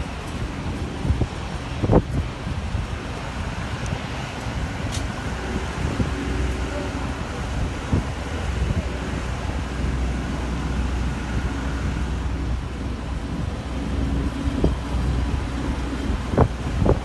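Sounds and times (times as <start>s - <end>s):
machinery rumbling: 0.0s - 17.0s
wind buffeting microphone: 0.0s - 17.0s.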